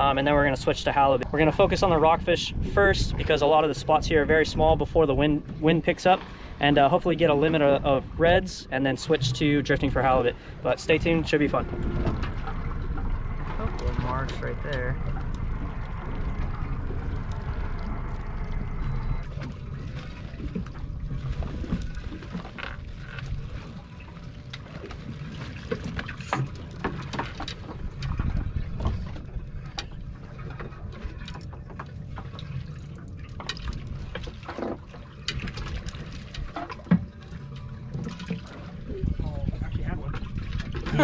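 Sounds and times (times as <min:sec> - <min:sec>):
low rumble: 0:00.0 - 0:41.0
water lapping against boat hull: 0:00.0 - 0:41.0.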